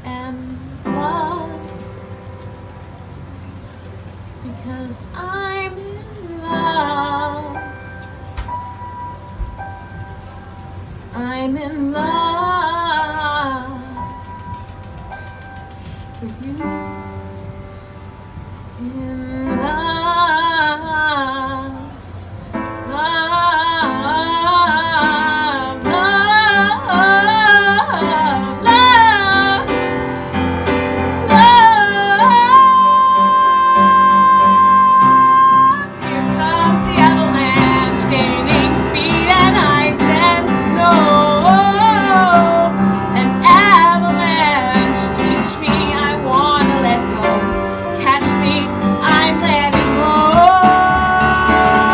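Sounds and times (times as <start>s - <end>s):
woman singing ballad: 0.0s - 2.1s, 4.4s - 7.9s, 11.1s - 14.2s, 16.2s - 17.2s, 18.7s - 51.9s
piano accompaniment: 0.0s - 51.9s.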